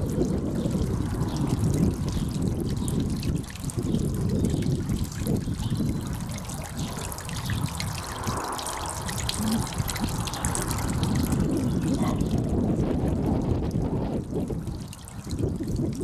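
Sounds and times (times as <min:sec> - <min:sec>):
water trickling and splashing: 0:00.0 - 0:16.0
wind on microphone: 0:00.0 - 0:16.0.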